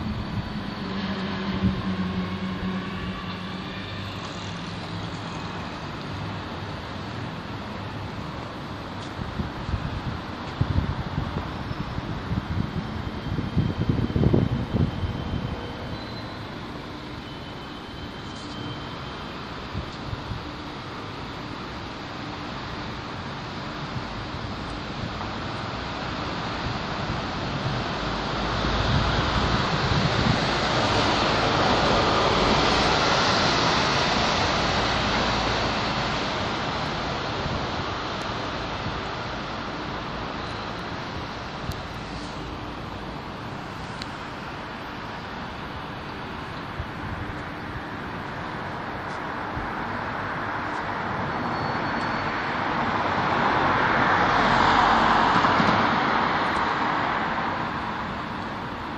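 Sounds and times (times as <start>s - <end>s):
road traffic: 0.0s - 58.9s.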